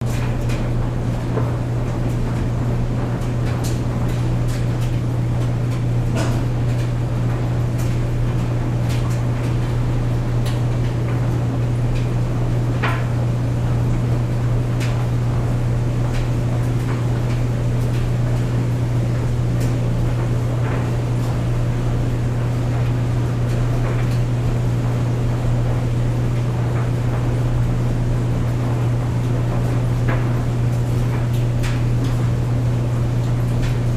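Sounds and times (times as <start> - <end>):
clothes dryer humming: 0.0 - 33.9.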